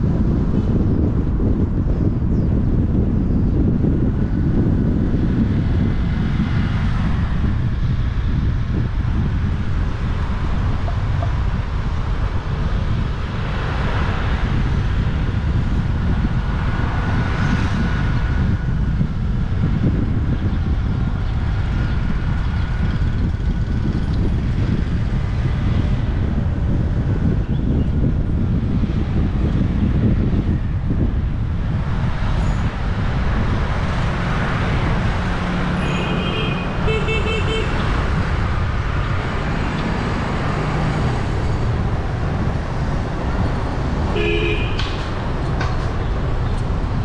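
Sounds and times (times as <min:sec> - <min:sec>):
road vehicle noise: 0:00.0 - 0:47.0
wind rumble on microphone: 0:00.0 - 0:47.0.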